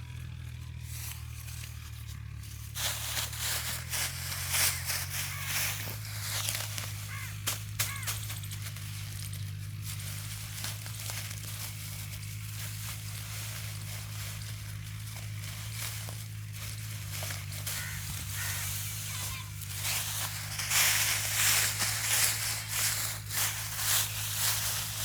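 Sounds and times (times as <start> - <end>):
steady low hum: 0.0 - 25.0
dry rice stalks rustling: 0.1 - 25.0.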